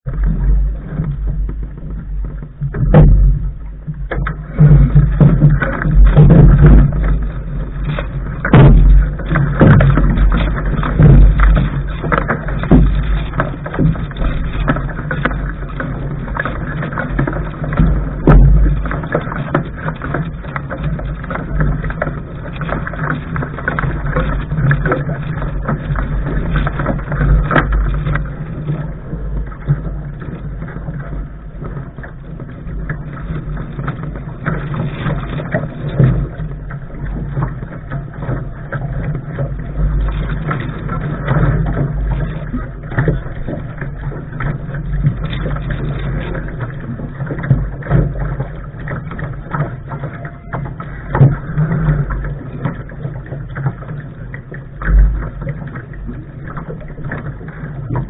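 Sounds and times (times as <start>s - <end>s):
water rushing along hull: 0.0s - 58.0s
wind buffeting microphone: 0.0s - 58.0s.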